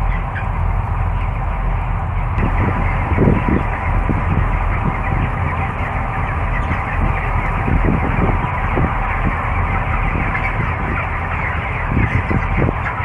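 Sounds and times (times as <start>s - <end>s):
chickens chirping and clucking: 0.0s - 13.0s
ventilation fans humming: 0.0s - 13.0s.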